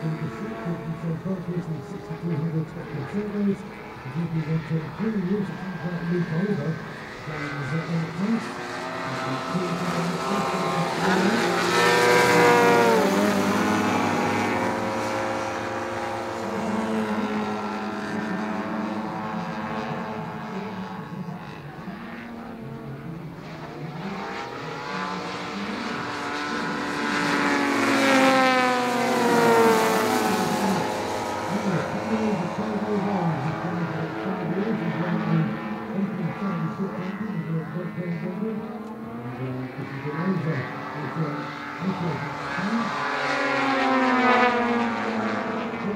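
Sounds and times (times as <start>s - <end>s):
model plane engines: 0.0s - 45.9s.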